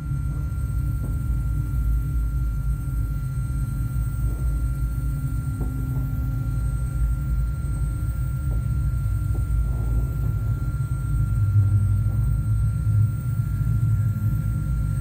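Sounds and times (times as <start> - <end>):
low rumbling drone: 0.0 - 15.0.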